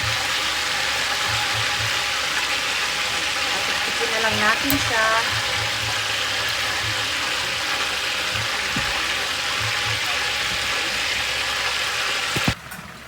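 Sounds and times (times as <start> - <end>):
chicken deep-frying in hot oil: 0.0 - 13.0.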